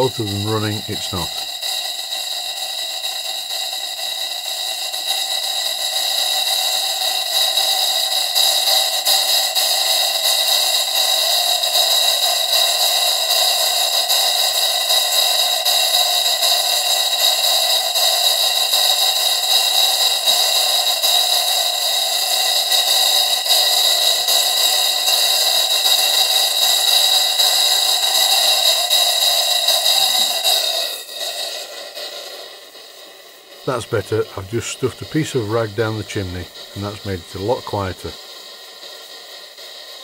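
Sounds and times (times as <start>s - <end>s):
steam engine exhaust hissing: 0.0s - 40.0s.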